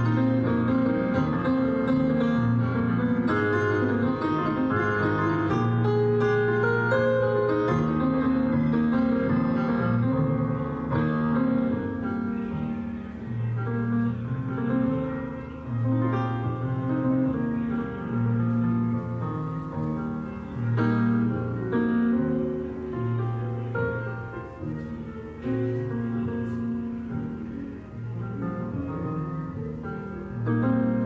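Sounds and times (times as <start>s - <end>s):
slow instrumental music: 0.0s - 31.0s.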